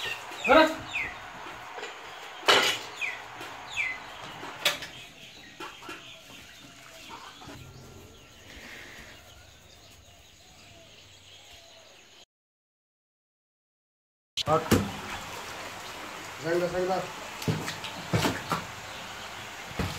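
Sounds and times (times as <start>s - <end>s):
birds calling: 0.0s - 12.2s, 14.5s - 19.9s.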